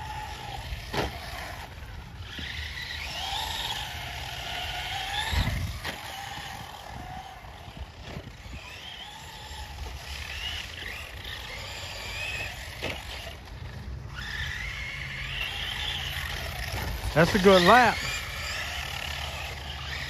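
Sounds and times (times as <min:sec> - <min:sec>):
rc truck motor whining: 0:00.0 - 0:20.0.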